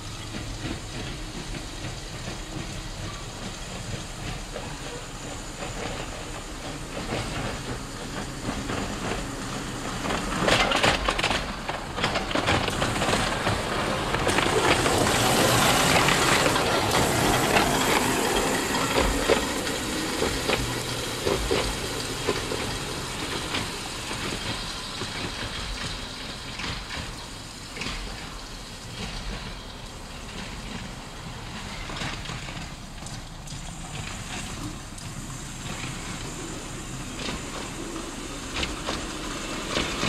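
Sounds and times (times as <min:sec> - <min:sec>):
model streetcar wheels rumbling: 0:00.0 - 0:40.0.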